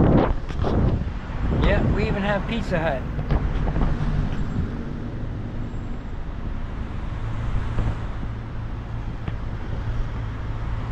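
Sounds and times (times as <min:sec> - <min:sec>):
vehicle road noise: 0:00.0 - 0:10.9
low engine hum: 0:00.3 - 0:10.9.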